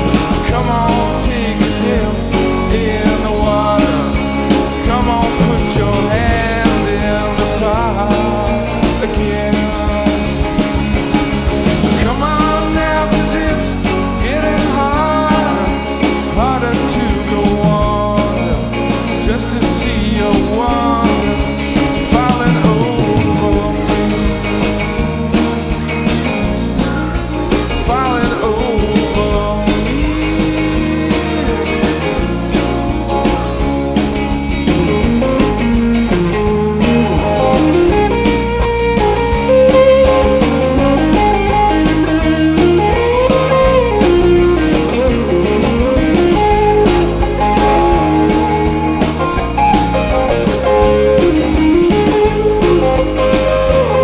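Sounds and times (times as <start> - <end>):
bass guitar: 0.0 - 54.0
drums hitting steadily: 0.0 - 54.0
lead guitar with bending notes: 0.0 - 54.0
rock band playing live: 0.0 - 54.0.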